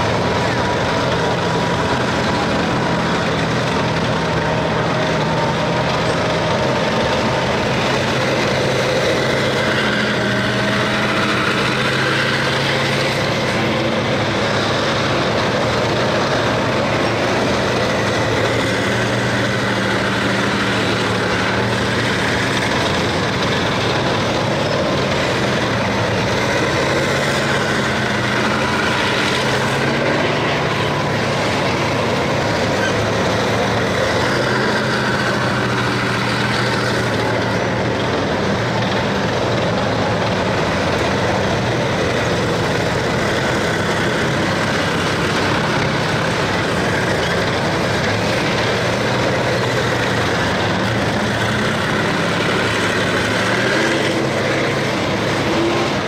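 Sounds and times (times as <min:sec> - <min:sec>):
heavy tank engine drone: 0:00.0 - 0:56.0
tank tracks clattering on road: 0:00.0 - 0:56.0.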